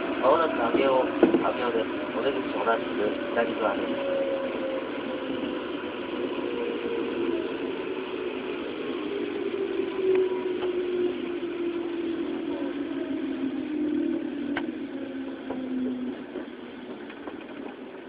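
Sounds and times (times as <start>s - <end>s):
train motor whine: 0.0s - 18.0s
wheels rumbling on rails: 0.0s - 18.0s.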